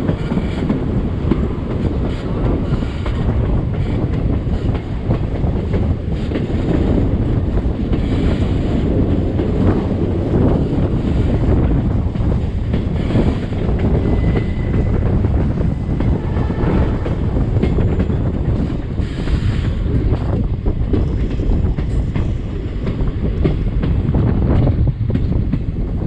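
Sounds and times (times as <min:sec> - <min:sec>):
train rumbling: 0:00.0 - 0:26.0
wind buffeting microphone: 0:00.0 - 0:26.0.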